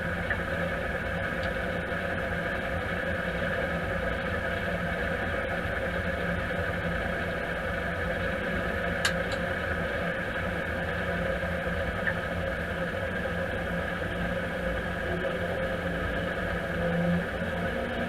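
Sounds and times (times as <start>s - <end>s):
combine harvester drone: 0.0s - 18.0s.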